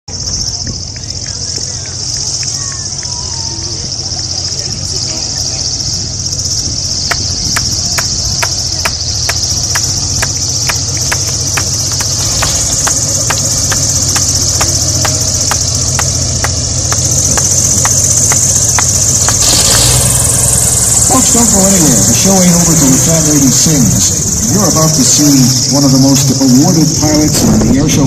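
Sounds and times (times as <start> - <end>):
insect chirring: 0.1 - 27.3
propeller engine idling: 0.1 - 28.0
regular ticking: 0.9 - 27.3.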